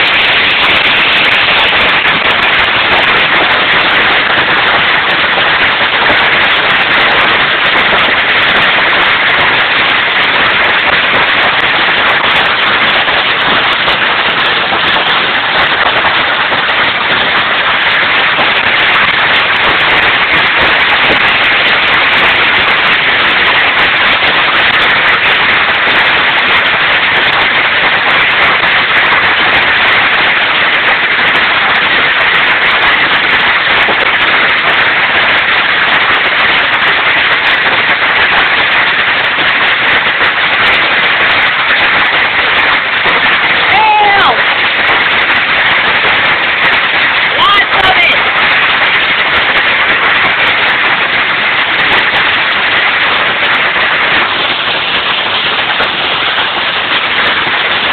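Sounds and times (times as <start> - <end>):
hail and rain pelting down: 0.0 - 57.9.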